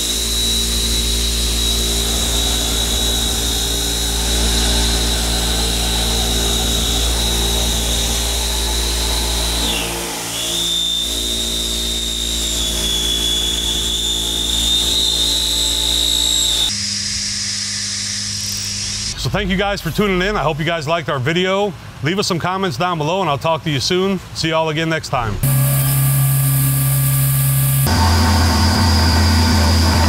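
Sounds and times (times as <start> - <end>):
milling machine cutting whine: 0.0 - 20.6, 25.4 - 30.0
machine low hum: 0.0 - 20.8, 25.3 - 30.0.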